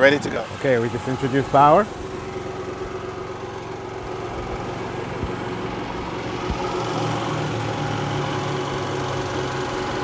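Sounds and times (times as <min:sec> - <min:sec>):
generator engine running: 0:00.0 - 0:10.0.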